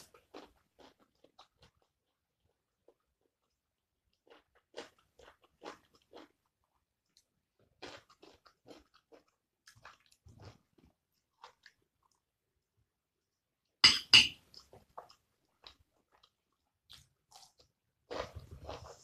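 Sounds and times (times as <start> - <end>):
chewing and crunching: 0.0 - 12.4, 14.5 - 19.0.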